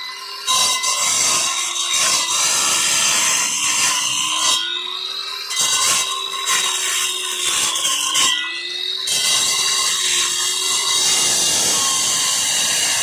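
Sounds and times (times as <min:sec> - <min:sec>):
power tool cutting: 0:00.0 - 0:13.0.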